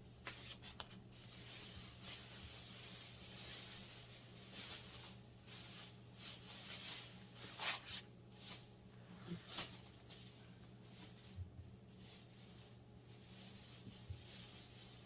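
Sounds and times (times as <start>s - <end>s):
low steady hum: 0.0s - 15.0s
plastic sheeting rustling and crinkling: 0.2s - 15.0s.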